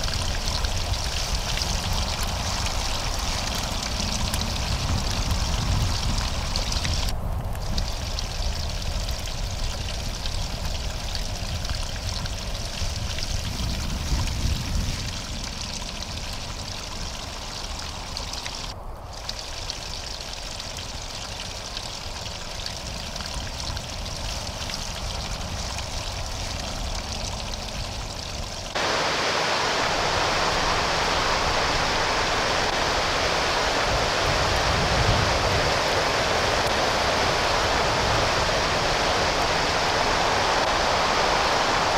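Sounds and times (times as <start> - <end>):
river water rushing: 0.0 - 13.0, 15.4 - 41.9
water trickling: 0.0 - 41.3.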